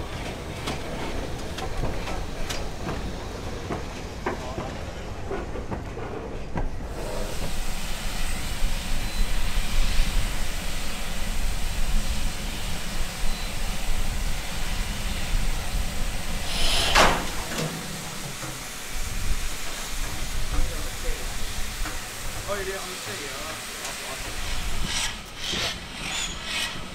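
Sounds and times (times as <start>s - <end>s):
steam locomotives hissing: 0.0s - 26.9s.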